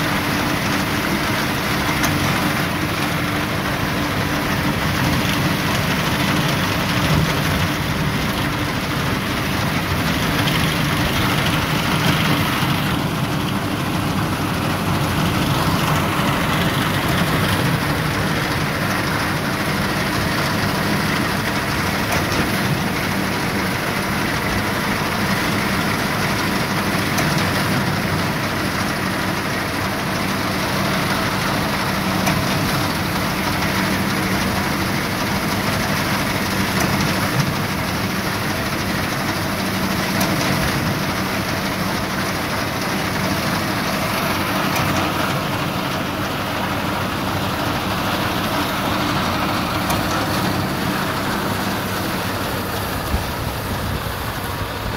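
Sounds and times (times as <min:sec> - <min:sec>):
reaper machine running noise: 0:00.0 - 0:54.9
tractor engine running: 0:00.0 - 0:54.9.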